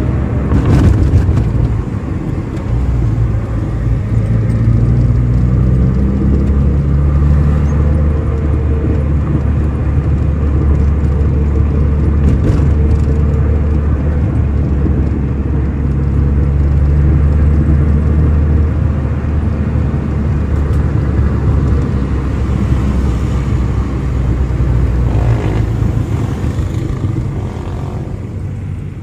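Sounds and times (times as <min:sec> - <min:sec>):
car engine hum: 0:00.0 - 0:29.0
tyre and road noise: 0:00.0 - 0:29.0.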